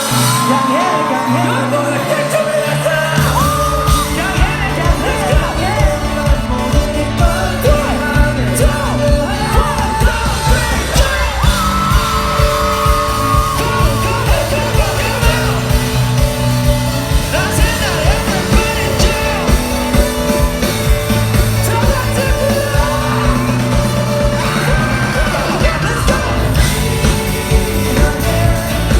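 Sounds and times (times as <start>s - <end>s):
crowd yelling: 0.0s - 28.9s
live rock band music: 0.0s - 28.9s
person singing: 0.0s - 28.9s.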